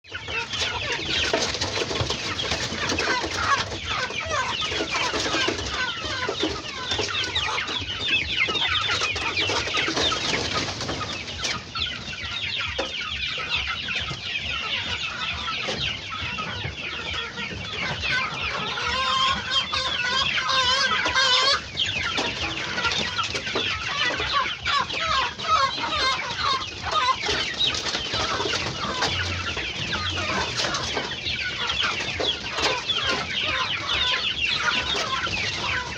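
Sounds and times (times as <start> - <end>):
chickens clucking and cheeping: 0.0 - 35.9
chicken drawn-out call: 0.1 - 35.9.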